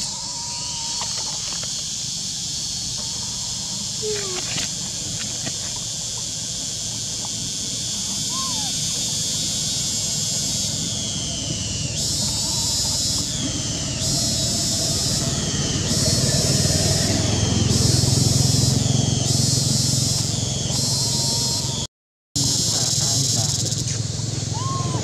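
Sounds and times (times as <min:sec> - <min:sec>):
cicadas droning: 0:00.0 - 0:25.0
low motor rumble: 0:02.9 - 0:25.0.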